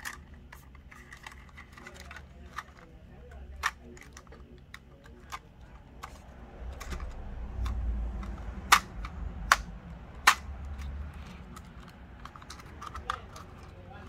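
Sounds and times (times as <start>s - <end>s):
plastic parts clicking and tapping: 0.0s - 14.0s.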